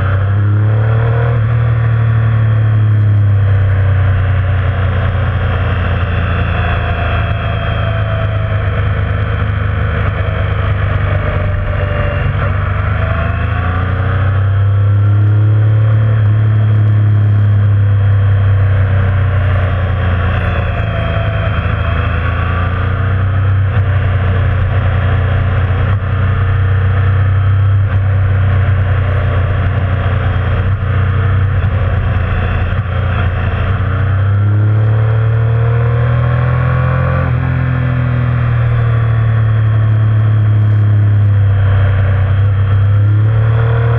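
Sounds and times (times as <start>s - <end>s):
motorcycle engine revving: 0.0s - 43.9s
wind and road noise: 0.0s - 43.9s.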